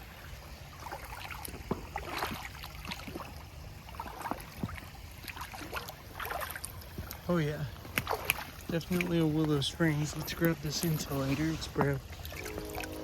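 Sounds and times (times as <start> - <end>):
footsteps splashing through water: 0.7 - 13.0.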